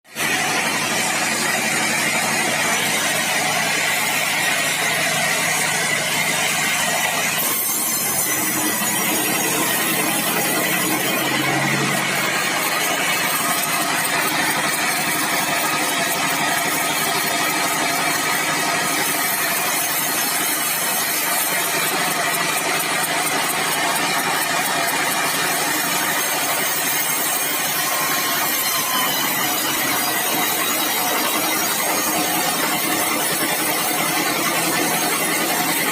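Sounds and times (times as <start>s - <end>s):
bandsaw cutting wood: 0.0s - 35.9s.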